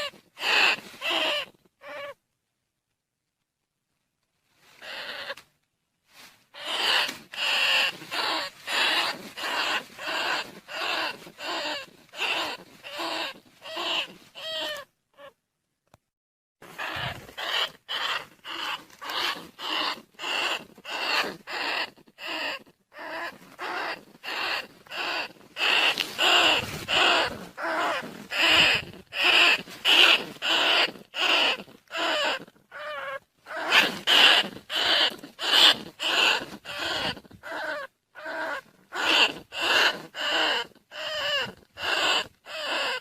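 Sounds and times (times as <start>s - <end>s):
rat squeaking calls: 0.0s - 2.2s, 4.8s - 5.4s, 6.5s - 15.4s, 16.7s - 43.0s.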